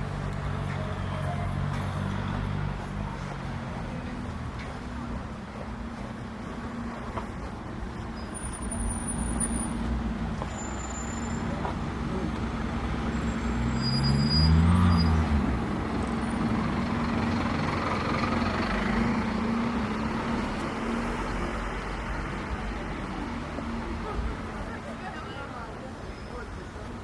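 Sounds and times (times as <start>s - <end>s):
bus engine humming: 0.0s - 27.0s
street traffic: 0.0s - 27.0s.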